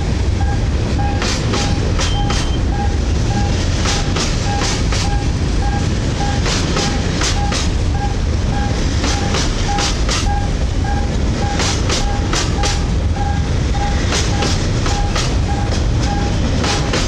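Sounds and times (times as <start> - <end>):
train wheels rumbling on rail: 0.0 - 17.0
wheels clicking over rail joints: 0.4 - 17.0.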